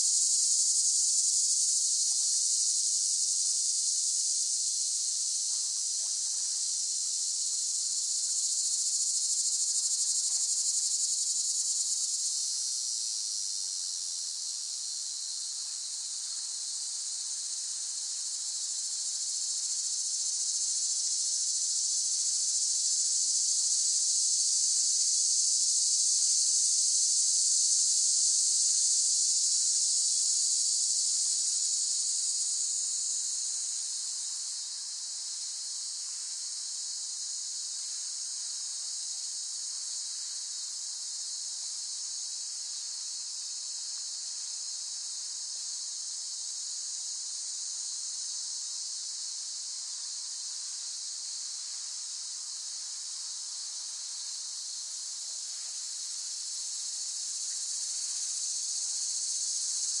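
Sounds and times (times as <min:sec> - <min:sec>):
cicadas buzzing: 0:00.0 - 1:00.0.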